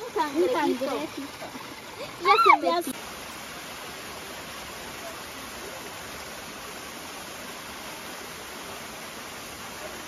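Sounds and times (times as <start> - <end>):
waterfall rushing over rocks: 0.0 - 10.0.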